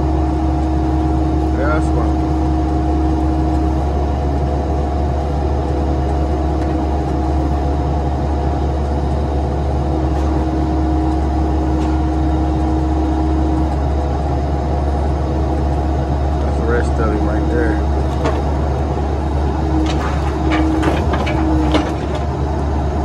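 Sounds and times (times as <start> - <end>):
excavator diesel engine running: 0.0 - 23.0
steady whine: 0.0 - 23.0.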